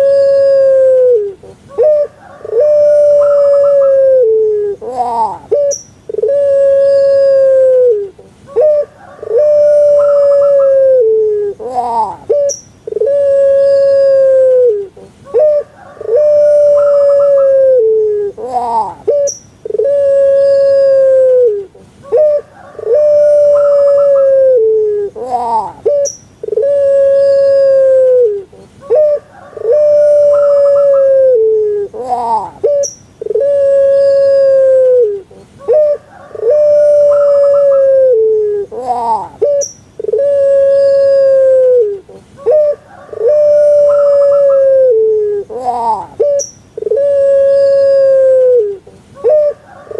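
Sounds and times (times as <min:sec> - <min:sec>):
dove cooing: 0:00.0 - 0:49.9.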